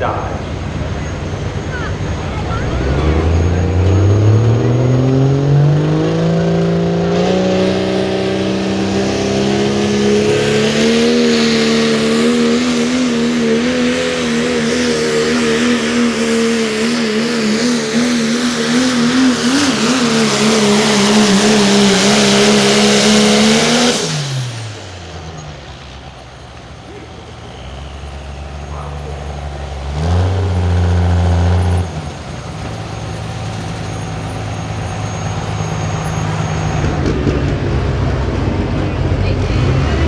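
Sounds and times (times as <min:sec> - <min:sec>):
diesel truck engine at full throttle: 0:00.0 - 0:40.0.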